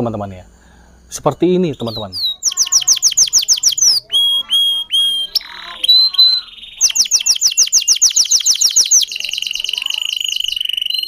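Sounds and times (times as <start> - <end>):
canary singing: 1.1 - 11.0.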